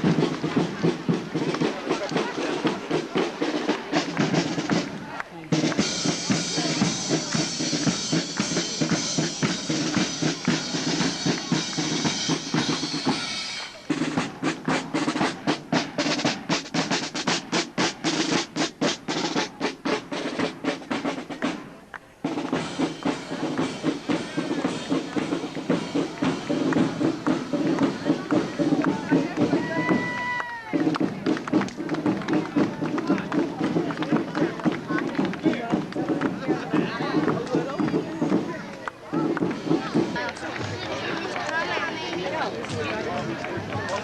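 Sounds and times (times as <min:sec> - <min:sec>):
snare drum rolls: 0:00.0 - 0:44.0.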